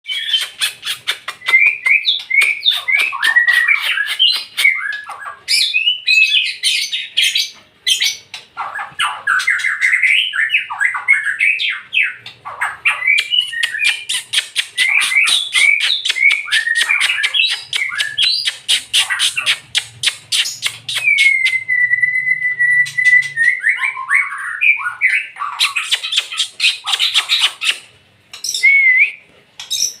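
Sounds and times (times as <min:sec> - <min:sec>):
bird singing whistles and chatters: 0:00.1 - 0:30.0.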